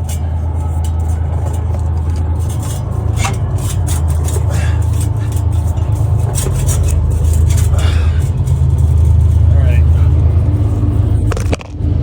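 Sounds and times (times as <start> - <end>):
low hum: 0.0 - 12.0
metal exhaust pipe clicks and scrapes: 0.0 - 12.0.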